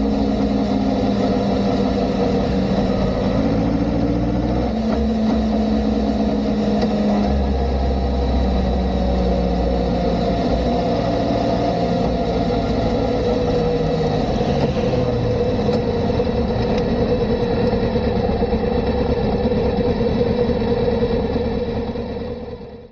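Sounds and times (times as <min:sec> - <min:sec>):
motorcycle engine running: 0:00.0 - 0:22.9
steady whine: 0:00.0 - 0:22.9.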